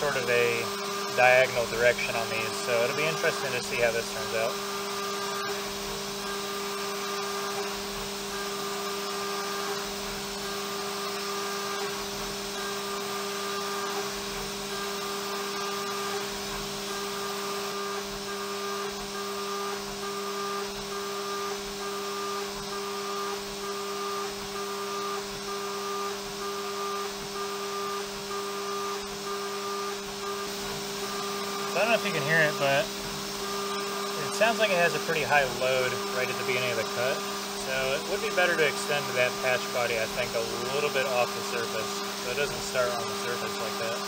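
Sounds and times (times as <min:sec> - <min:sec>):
milling spindle whine: 0:00.0 - 0:44.0.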